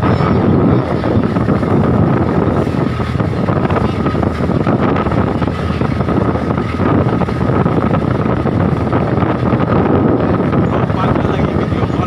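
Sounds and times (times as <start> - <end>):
boat engine running: 0.0 - 12.0
waves rushing along hull: 0.0 - 12.0
wind buffeting microphone: 0.0 - 12.0.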